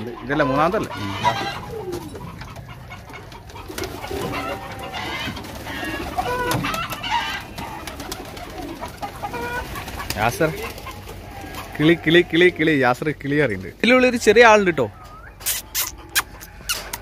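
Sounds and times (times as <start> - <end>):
pigeons cooing: 0.0 - 12.8, 14.6 - 17.0
chickens clucking: 0.0 - 17.0.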